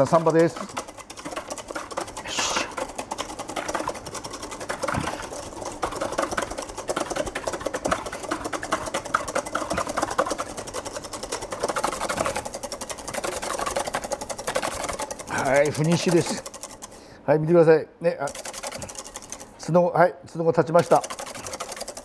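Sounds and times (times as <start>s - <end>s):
whisk clicking in metal bowl: 0.0s - 17.1s, 18.2s - 19.5s, 20.7s - 22.0s.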